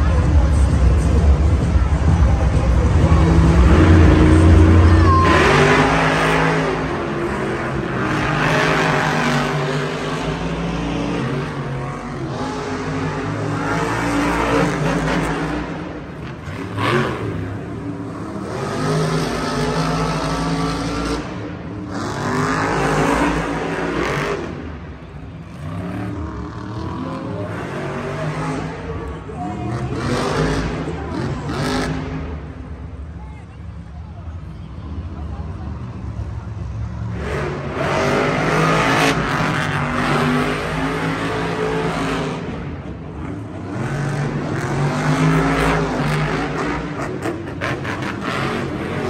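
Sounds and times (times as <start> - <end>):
monster truck engines revving: 0.0 - 49.0.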